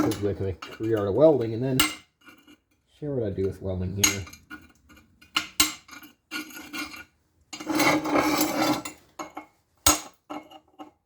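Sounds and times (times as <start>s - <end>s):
metal scraping: 0.0s - 9.4s.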